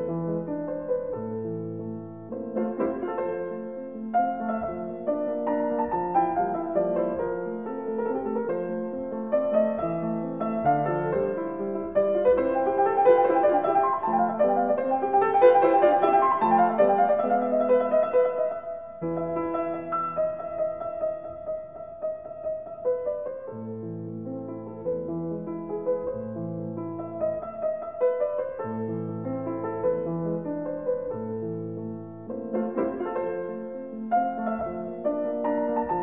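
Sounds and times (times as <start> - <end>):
slow classical piano music: 0.0 - 36.0.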